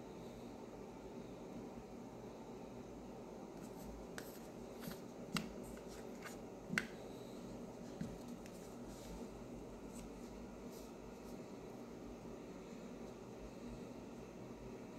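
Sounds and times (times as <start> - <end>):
faint steady hiss: 0.0 - 14.9.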